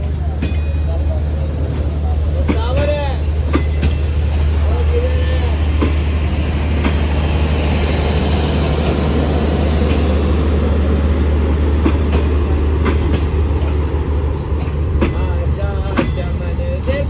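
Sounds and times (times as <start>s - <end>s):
train rolling low hum: 0.0s - 17.0s
wheels clicking over rail joints: 0.0s - 17.0s.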